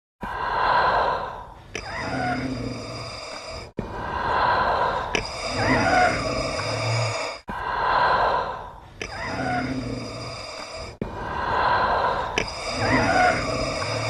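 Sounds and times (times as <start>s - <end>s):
laboured respirator breathing: 0.2s - 14.0s.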